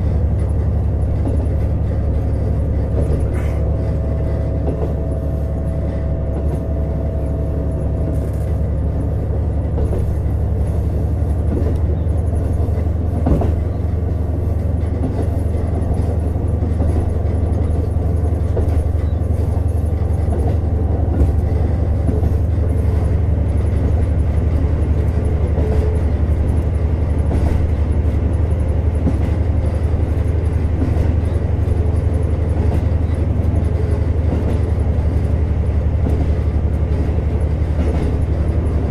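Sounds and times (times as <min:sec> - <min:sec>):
diesel railcar engine drone: 0:00.0 - 0:38.9
wheels on rails: 0:00.0 - 0:38.9.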